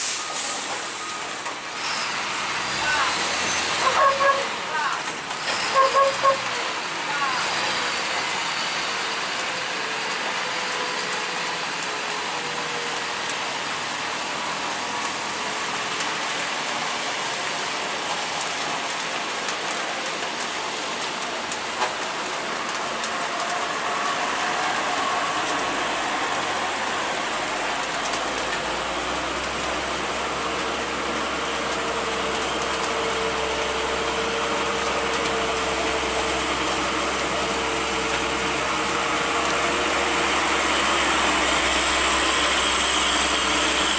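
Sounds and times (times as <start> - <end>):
rain hiss: 0.0 - 43.9
truck engines whining uphill: 0.0 - 43.9.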